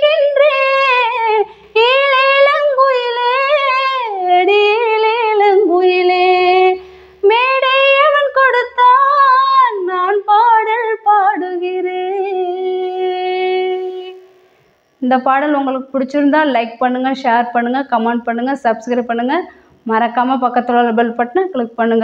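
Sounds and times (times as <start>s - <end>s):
woman singing unaccompanied: 0.0s - 14.3s, 15.0s - 22.0s.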